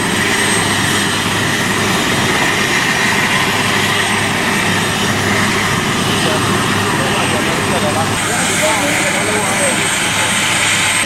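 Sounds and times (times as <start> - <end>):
helicopter engines and rotor: 0.0 - 11.0.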